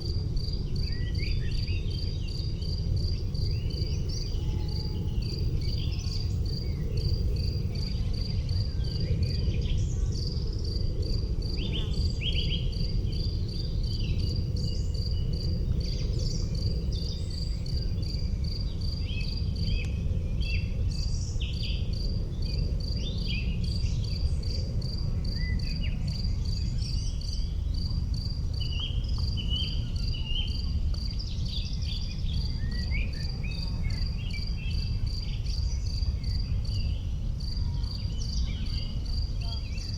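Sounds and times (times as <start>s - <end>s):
insect chirping: 0.0s - 19.8s, 20.4s - 39.9s.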